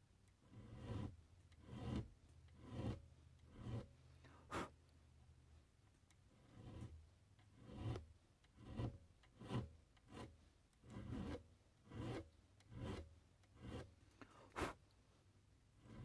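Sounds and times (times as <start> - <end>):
hand file rasping on brass: 0.4 - 4.8, 6.3 - 14.8, 15.8 - 16.0.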